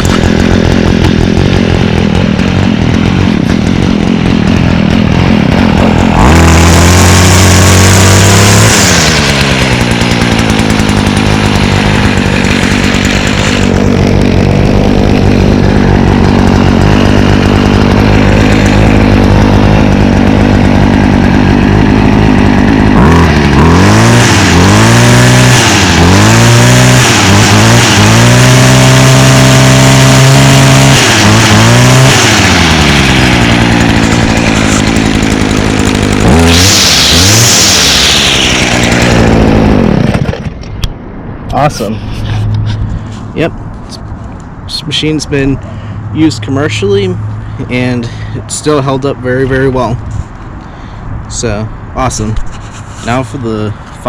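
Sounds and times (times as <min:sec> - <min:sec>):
string trimmer engine revving: 0:00.0 - 0:40.8, 0:41.5 - 0:50.7.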